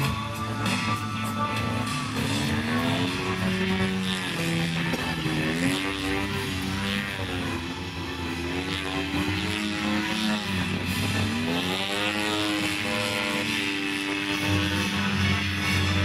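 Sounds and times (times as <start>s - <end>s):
model airplane engine: 0.0s - 16.0s.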